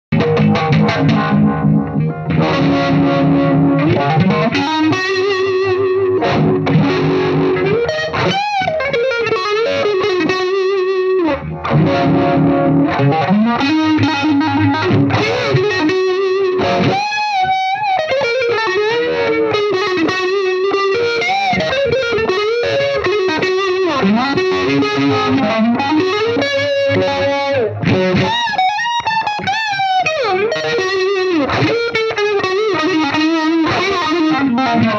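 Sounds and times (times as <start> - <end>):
wavering distorted electric guitar: 0.1 - 34.9.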